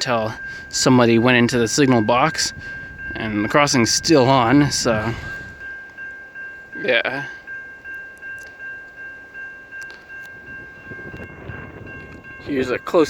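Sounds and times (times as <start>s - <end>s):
railway crossing bell ringing: 0.0s - 13.0s.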